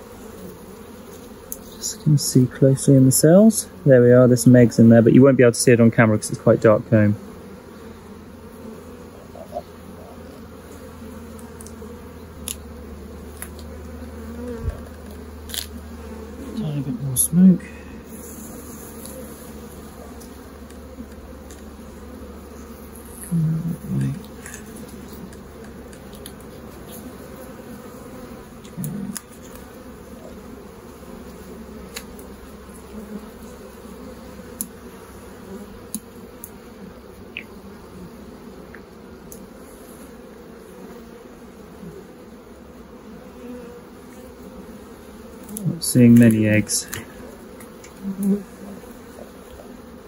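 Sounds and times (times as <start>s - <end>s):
bees humming: 0.0s - 50.0s
loud bee buzzes: 0.0s - 50.0s.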